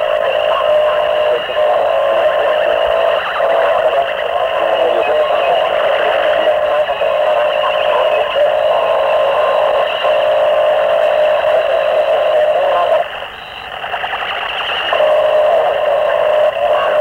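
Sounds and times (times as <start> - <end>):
harsh distorted noise music: 0.0 - 17.0.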